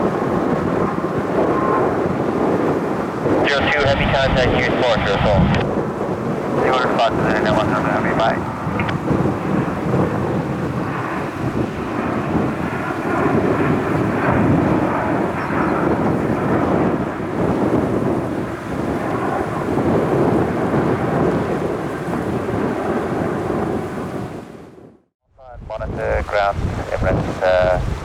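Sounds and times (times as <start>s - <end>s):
jet engines deep rumble: 0.0s - 28.0s.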